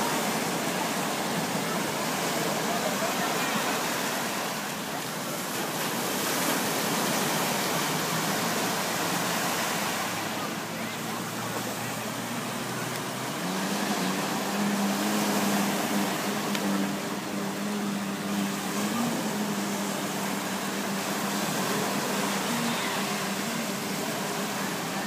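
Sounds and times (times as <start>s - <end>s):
motorboat engine droning: 0.0s - 25.0s
small waves breaking on beach: 0.0s - 25.0s.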